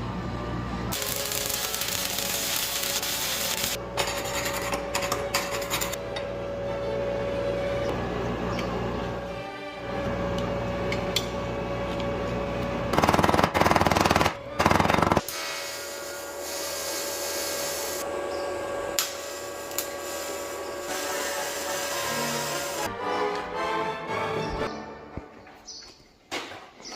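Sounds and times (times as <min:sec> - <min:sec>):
steady background hum: 0:00.0 - 0:22.9.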